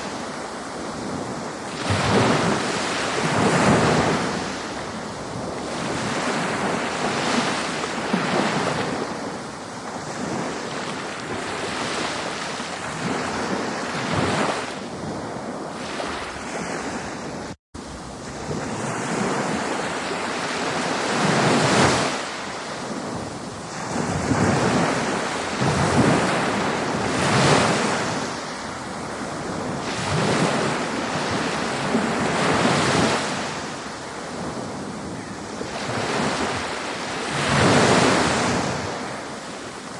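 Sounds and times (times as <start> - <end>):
ocean surf washing: 0.0 - 39.9
wind on microphone: 0.0 - 39.9.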